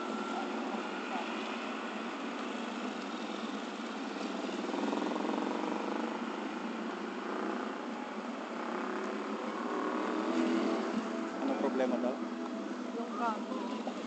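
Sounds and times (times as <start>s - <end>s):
cars and motorcycles passing: 0.0s - 14.0s.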